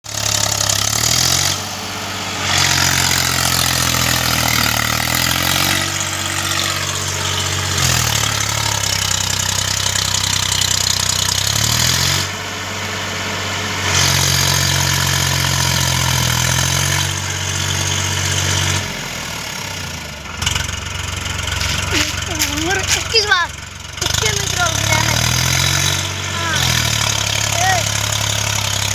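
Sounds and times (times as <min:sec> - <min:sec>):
tractor diesel engine straining: 0:00.0 - 0:28.9.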